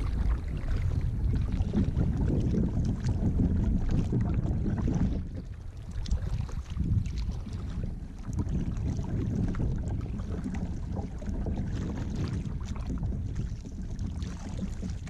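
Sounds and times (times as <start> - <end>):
paddle splashing water: 0.0 - 15.0
steady low rumble: 0.0 - 15.0.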